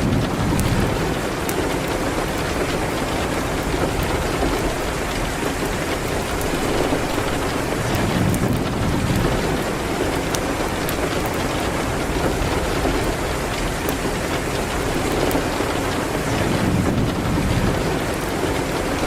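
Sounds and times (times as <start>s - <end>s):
rain hitting a window: 0.0s - 19.0s.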